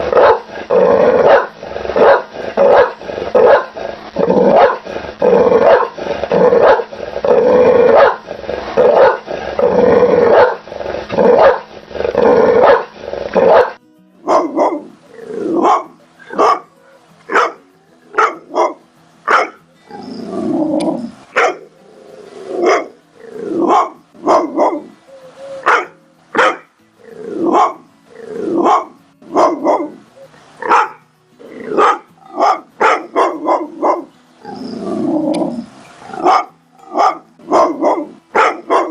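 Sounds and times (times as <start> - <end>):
dog barking and growling: 0.0 - 38.9.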